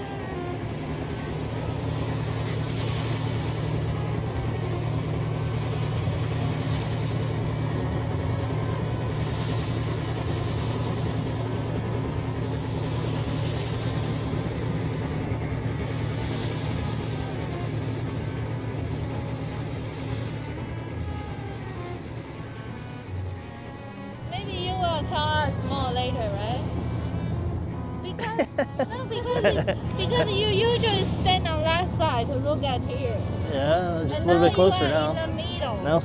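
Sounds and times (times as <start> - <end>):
hissing wash: 0.0 - 36.0
low engine-like rumble: 0.0 - 36.0.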